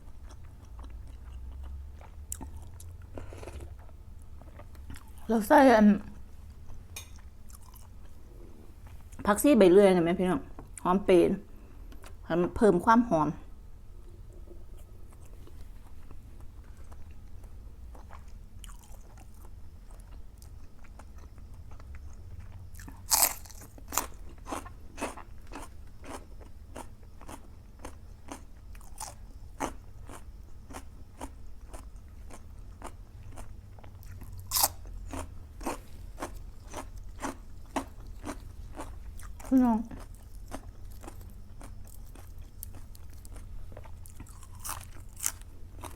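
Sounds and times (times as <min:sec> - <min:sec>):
person chewing cartilage: 0:00.0 - 0:05.3, 0:06.6 - 0:08.2, 0:14.8 - 0:45.9
faint low hum: 0:00.0 - 0:45.9.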